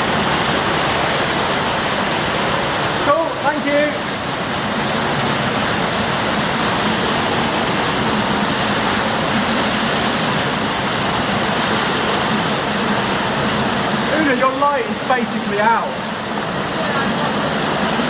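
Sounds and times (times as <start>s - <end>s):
water rushing in cave stream: 0.0s - 18.0s.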